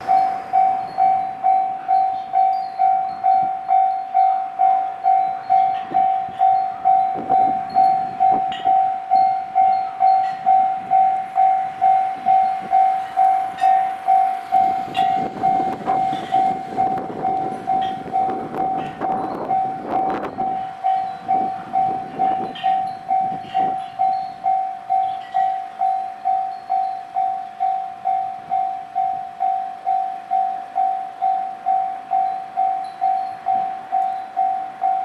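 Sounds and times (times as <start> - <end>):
level crossing alarm dinging: 0.0 - 35.0
train rumble: 0.0 - 35.0.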